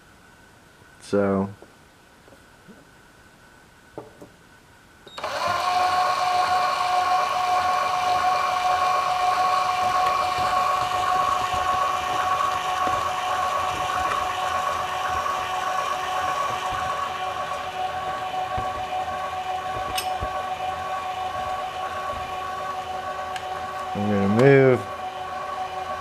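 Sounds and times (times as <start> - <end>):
electric actuator whining: 5.1 - 26.0.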